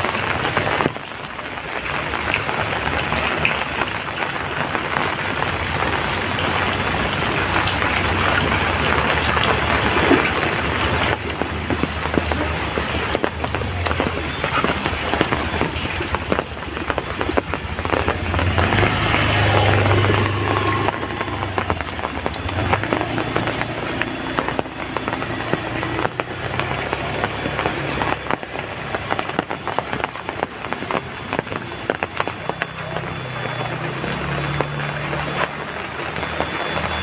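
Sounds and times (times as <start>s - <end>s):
heavy rain falling: 0.0s - 37.0s
raindrop impacts crackling: 0.0s - 37.0s.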